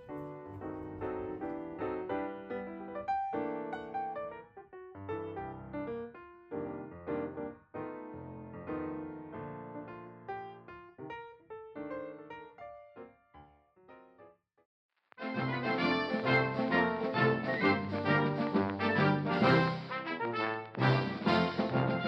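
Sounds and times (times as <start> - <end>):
piano music: 0.0 - 14.3, 15.2 - 22.0.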